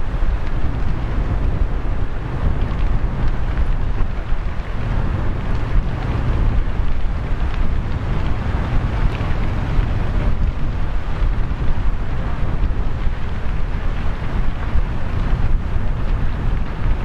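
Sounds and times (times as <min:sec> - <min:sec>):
large fire roaring: 0:00.0 - 0:17.0
wind buffeting microphone: 0:00.0 - 0:17.0.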